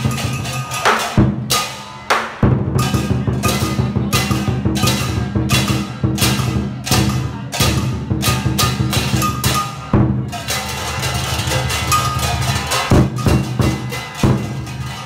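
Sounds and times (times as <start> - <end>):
big drum beating fast rhythm: 0.0 - 15.0
crashing cymbals: 0.0 - 15.0.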